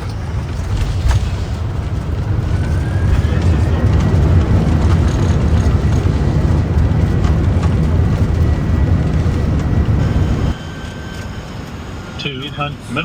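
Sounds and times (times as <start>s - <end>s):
airplane landing rumble: 0.0s - 13.0s.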